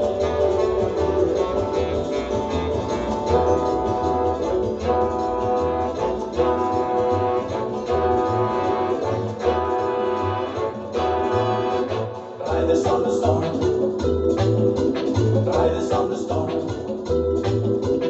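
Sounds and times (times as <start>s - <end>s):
guitar playing: 0.0s - 18.0s
held notes: 0.0s - 18.0s
pulsing bass line: 0.0s - 18.0s.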